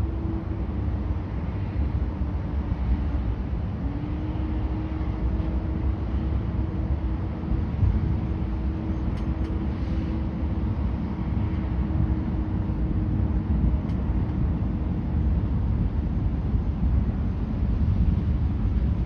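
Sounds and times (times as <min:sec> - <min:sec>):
distant city traffic rumble: 0:00.0 - 0:19.0
wind buffeting microphone: 0:00.0 - 0:19.0.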